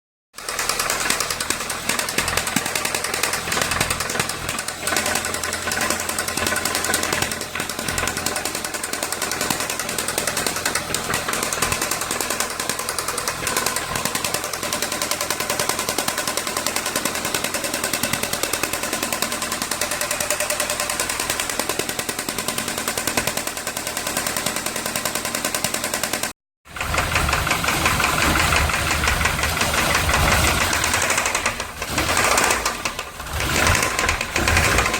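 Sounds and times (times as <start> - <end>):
engine running with fast knock: 0.4 - 34.9.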